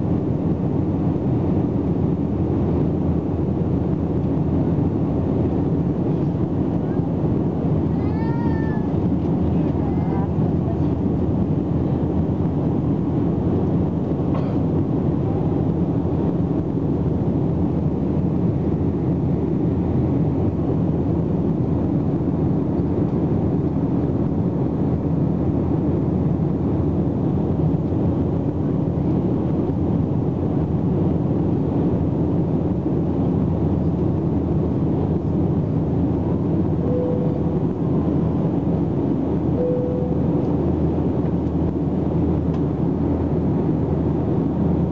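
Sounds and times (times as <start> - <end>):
jet engine cabin roar: 0.0 - 44.9.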